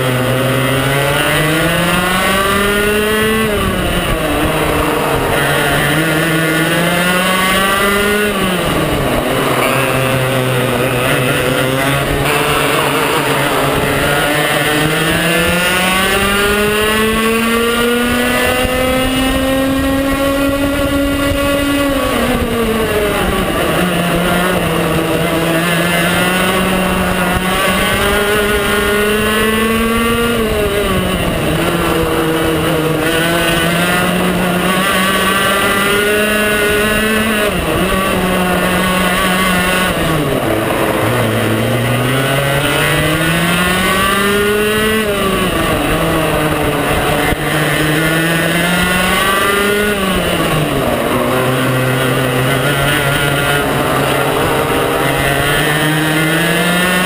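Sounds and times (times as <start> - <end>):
kart engine accelerating: 0.0 - 57.0.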